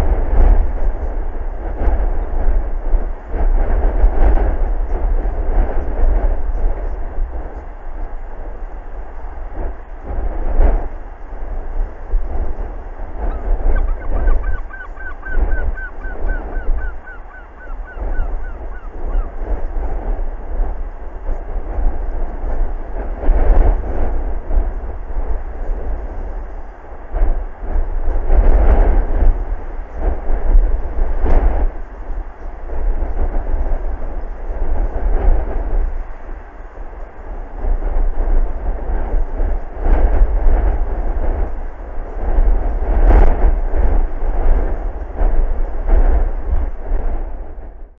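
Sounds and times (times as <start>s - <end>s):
strong wind buffeting microphone: 0.0s - 47.9s.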